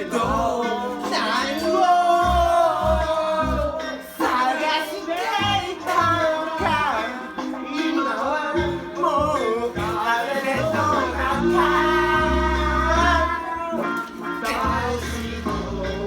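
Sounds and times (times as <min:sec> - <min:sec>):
instrumental backing: 0:00.0 - 0:16.0
person singing: 0:00.0 - 0:16.0.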